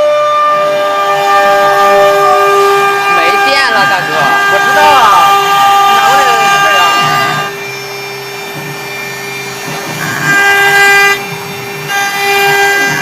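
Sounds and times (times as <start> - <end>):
stone router whining: 0.0 - 13.0.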